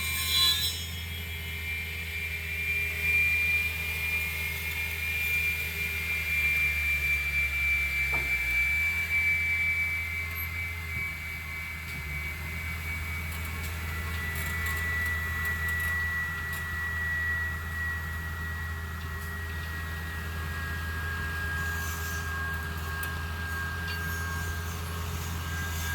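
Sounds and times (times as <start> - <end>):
high whine of saw drive: 0.0 - 25.9
diesel engine hum: 3.7 - 25.9.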